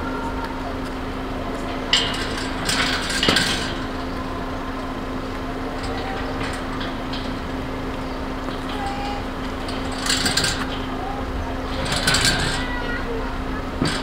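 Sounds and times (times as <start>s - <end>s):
low hum: 0.0s - 14.0s
metal gate latch rattling: 1.6s - 4.6s, 5.7s - 14.0s.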